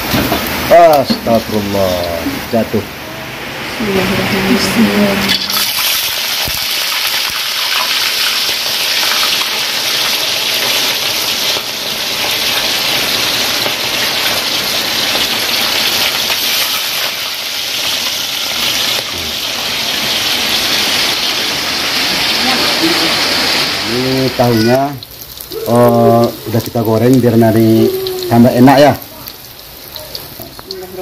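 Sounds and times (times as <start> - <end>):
fish deep-frying in oil: 0.0 - 31.0.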